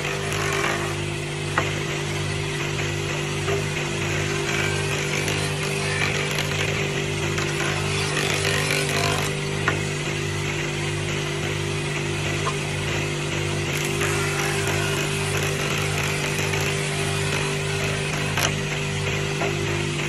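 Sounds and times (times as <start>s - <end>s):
wood shaving hiss: 0.0s - 10.2s, 13.4s - 20.0s
electric jointer motor hum: 0.0s - 20.0s.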